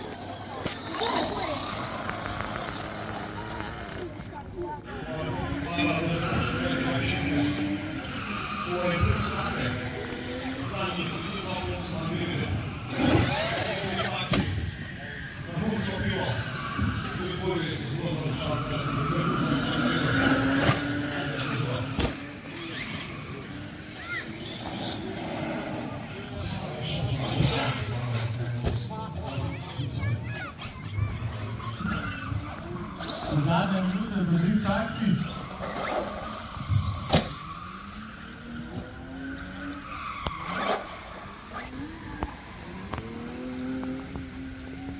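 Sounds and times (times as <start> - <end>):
model car motor whining: 0.0 - 4.5, 5.3 - 39.0.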